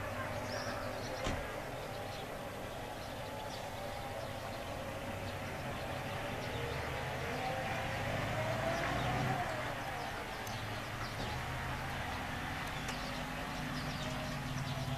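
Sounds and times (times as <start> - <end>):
truck diesel engine droning: 0.0 - 14.9.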